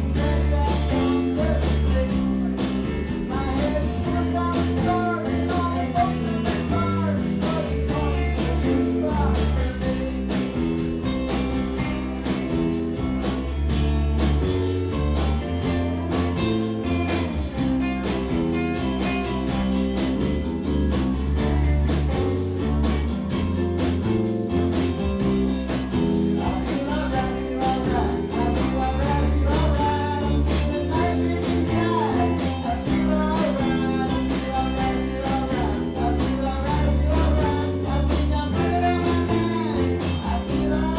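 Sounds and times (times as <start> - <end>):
drums keeping a steady beat: 0.0 - 40.9
live rock band playing: 0.0 - 40.9.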